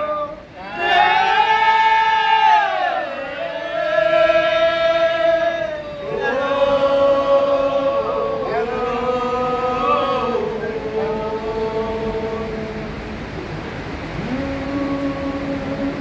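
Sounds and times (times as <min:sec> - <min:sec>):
voices singing a slow chant: 0:00.0 - 0:16.0.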